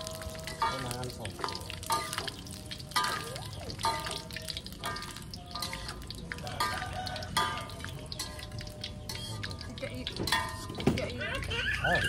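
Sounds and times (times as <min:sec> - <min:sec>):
frying hiss: 0:00.0 - 0:12.0
metal utensils clinking on wok: 0:00.0 - 0:12.0.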